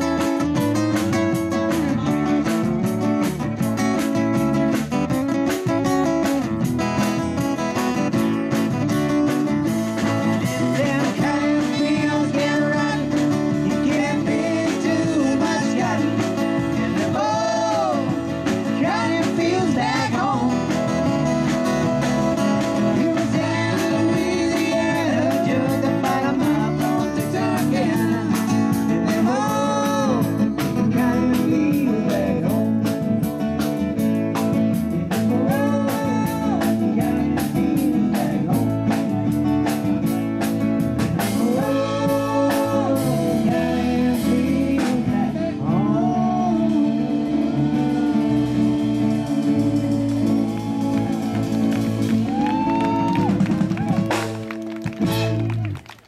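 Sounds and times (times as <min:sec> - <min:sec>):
drum kit steady beat: 0:00.0 - 0:55.5
acoustic guitar: 0:00.0 - 0:56.0
electric bass guitar: 0:00.0 - 0:56.0.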